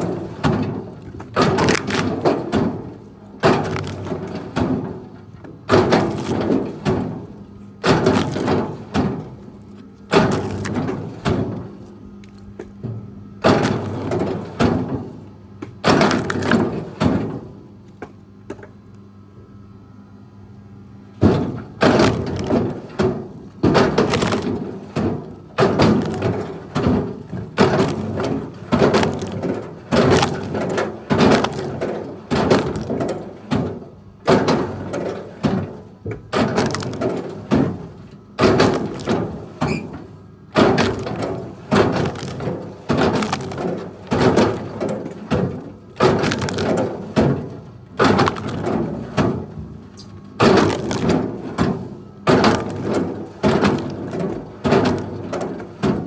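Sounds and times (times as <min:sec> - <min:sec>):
wood cracking and splintering: 0:00.0 - 0:12.7, 0:13.4 - 0:17.6, 0:21.2 - 0:56.0.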